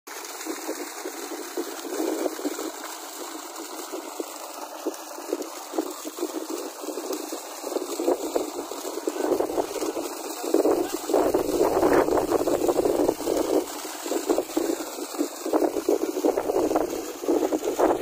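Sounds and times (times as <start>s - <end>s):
water flowing from pipe: 0.1s - 18.0s
water splashing: 0.1s - 18.0s.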